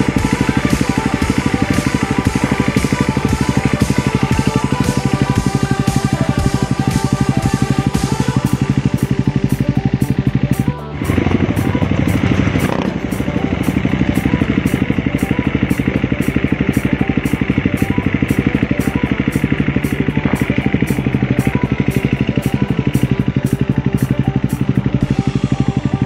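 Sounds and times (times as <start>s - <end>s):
background music with steady beat: 0.0s - 26.0s
motorcycle engine running: 0.0s - 26.0s.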